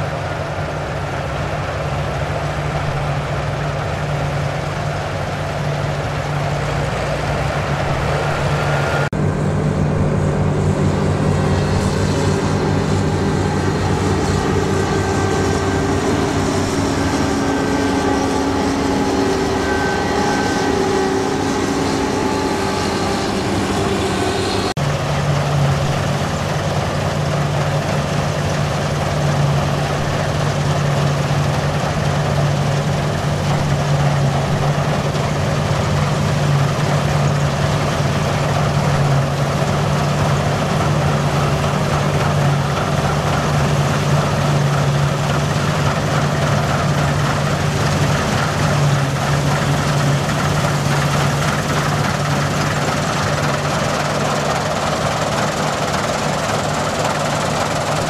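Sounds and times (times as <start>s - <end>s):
combine harvester engine drone: 0.0s - 58.0s
whirring threshing machinery: 0.0s - 58.0s.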